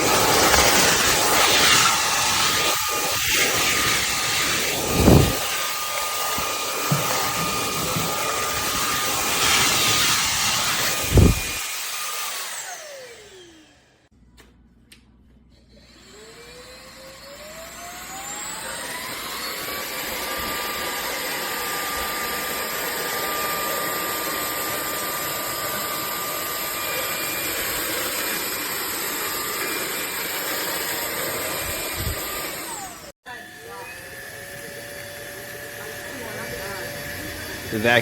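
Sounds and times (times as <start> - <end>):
vacuum motor whine: 0.0 - 14.0, 15.6 - 38.0.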